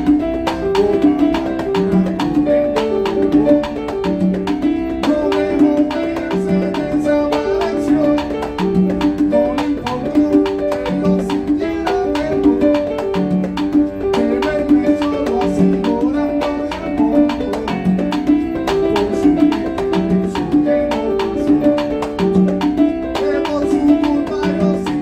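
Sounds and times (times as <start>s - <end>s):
hand drum percussion: 0.0s - 25.0s
piano figure: 0.0s - 25.0s.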